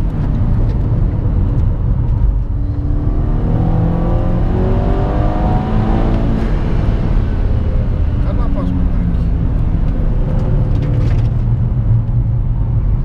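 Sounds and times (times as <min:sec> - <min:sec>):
car engine accelerating hard: 0:00.0 - 0:13.0
road noise: 0:00.0 - 0:13.0.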